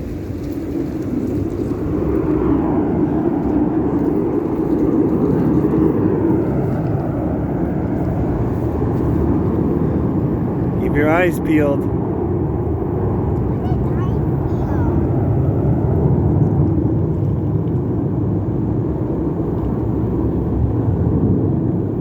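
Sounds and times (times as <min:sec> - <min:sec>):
jets flying by: 0:00.0 - 0:22.0.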